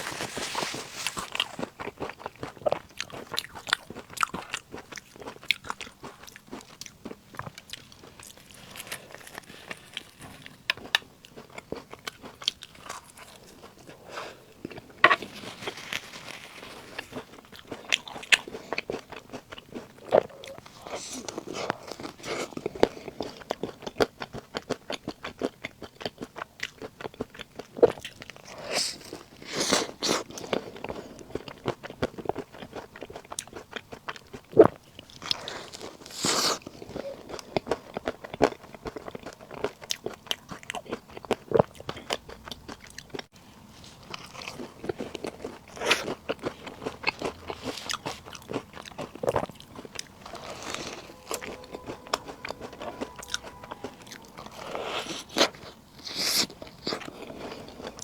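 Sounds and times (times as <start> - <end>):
crunchy snack chewing: 0.0 - 58.0.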